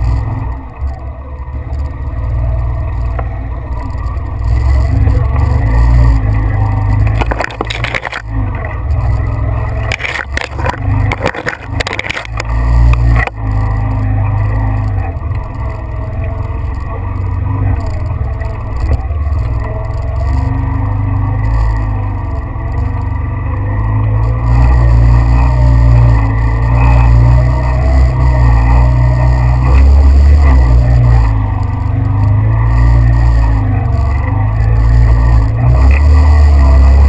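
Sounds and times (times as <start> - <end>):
vehicle engine rumbling: 0.0 - 37.0
rattling and scraping: 1.6 - 37.0.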